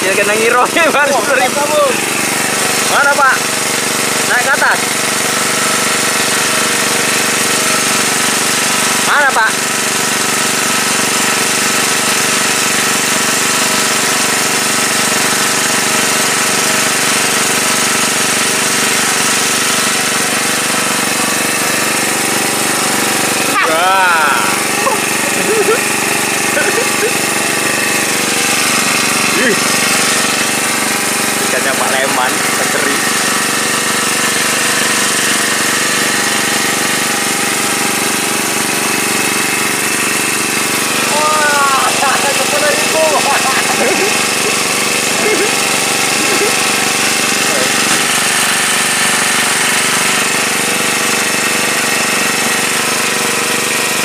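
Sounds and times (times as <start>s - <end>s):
water pump engine chugging: 0.0s - 54.0s.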